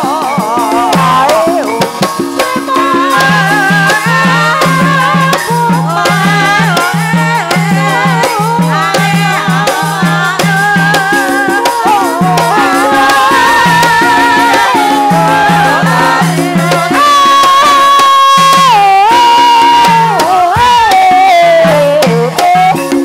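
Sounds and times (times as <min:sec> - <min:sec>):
gamelan music: 0:00.0 - 0:23.0.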